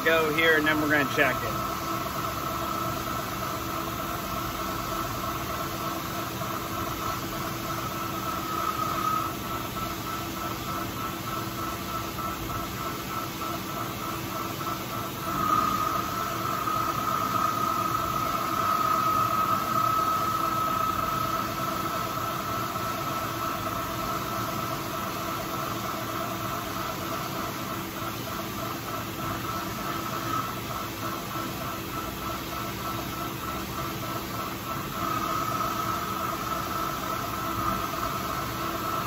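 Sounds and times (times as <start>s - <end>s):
lathe humming and whining: 0.0s - 39.0s.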